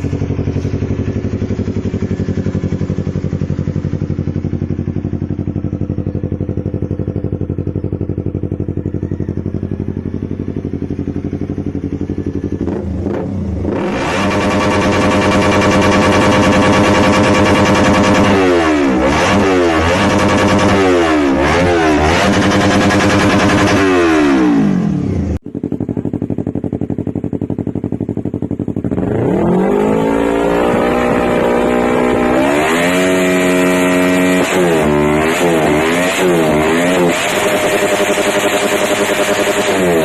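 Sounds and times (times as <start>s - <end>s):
motorcycle engine idling: 0.0s - 35.8s
motorcycle engine revving: 0.0s - 40.0s.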